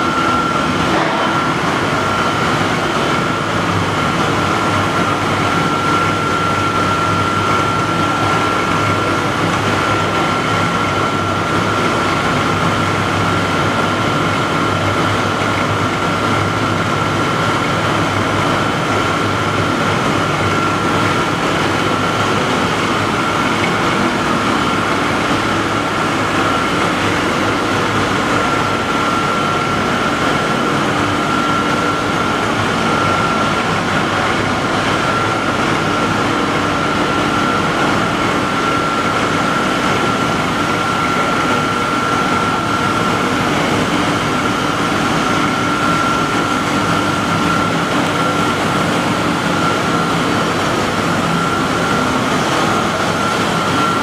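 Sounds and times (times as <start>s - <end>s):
high machine whine: 0.0s - 54.0s
loud machinery noise: 0.0s - 54.0s.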